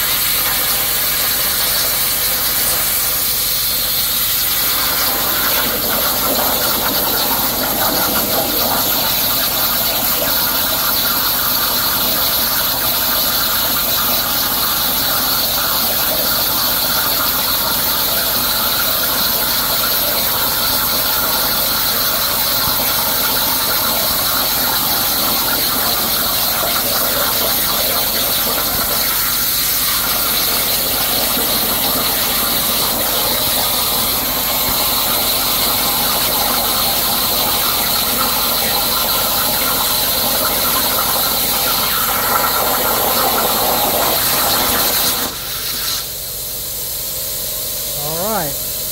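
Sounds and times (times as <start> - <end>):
plasma torch cutting metal: 0.0 - 46.9.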